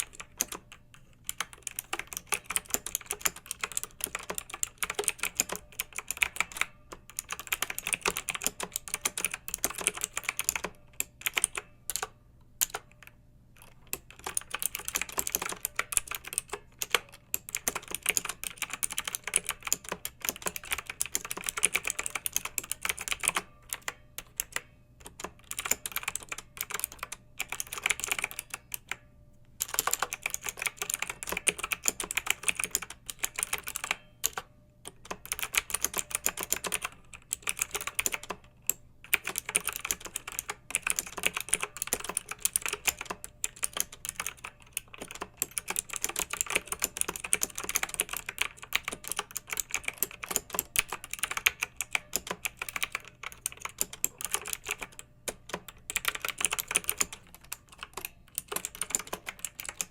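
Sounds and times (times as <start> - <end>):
mechanical keyboard typing: 0.0 - 29.0, 29.6 - 59.9.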